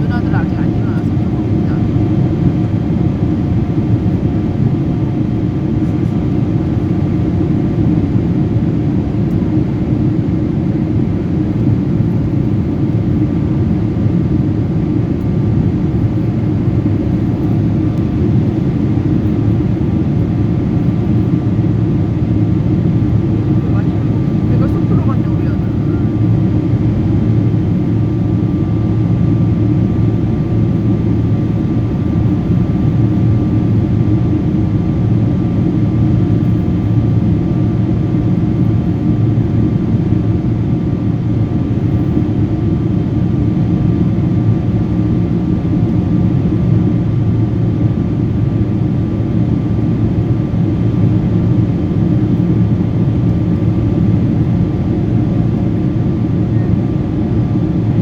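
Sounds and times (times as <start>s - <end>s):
constant hum tones: 0.0s - 58.0s
jet engine drone in cabin: 0.0s - 58.0s.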